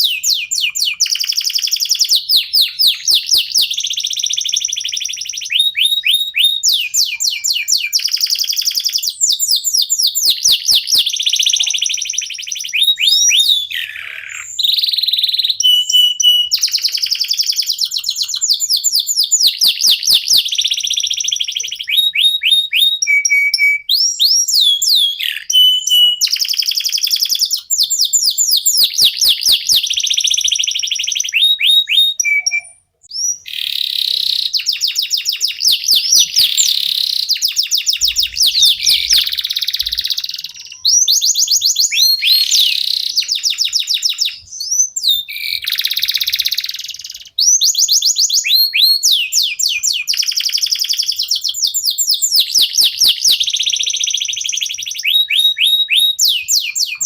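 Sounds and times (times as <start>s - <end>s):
canaries singing: 0.0s - 57.0s.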